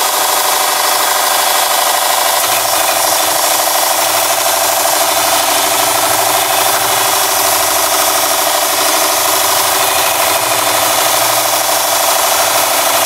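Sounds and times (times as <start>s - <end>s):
belt sharpener grinding steel tool: 2.4s - 13.0s.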